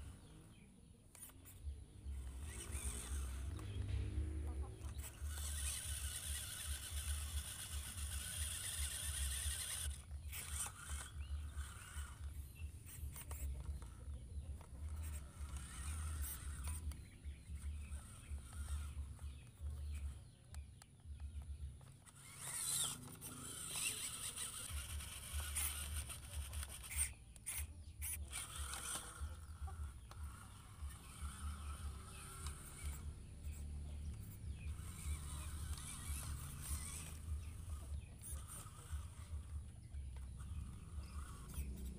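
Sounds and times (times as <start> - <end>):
toy truck motor whining: 0.0 - 41.9.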